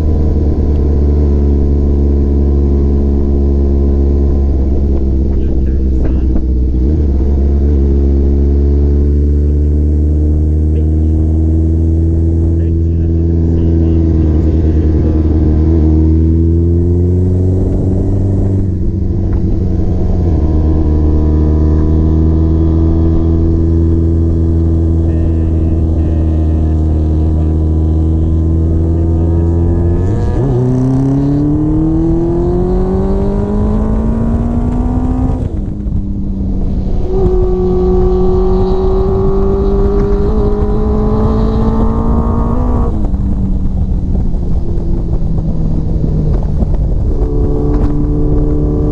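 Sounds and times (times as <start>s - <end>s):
wind noise: 0.0s - 12.7s, 13.5s - 48.9s
motorcycle engine revving: 0.0s - 48.9s
road noise: 0.0s - 48.9s.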